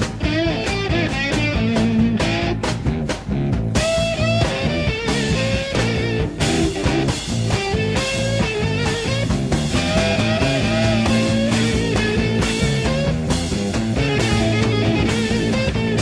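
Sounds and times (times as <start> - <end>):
bass and drums: 0.0 - 16.0
electric guitar lead: 0.0 - 16.0.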